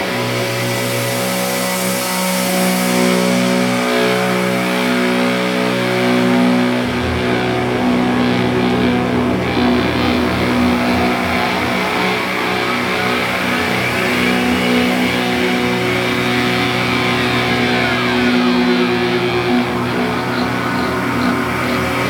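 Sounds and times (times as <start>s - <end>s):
doom metal band playing: 2.4s - 22.0s.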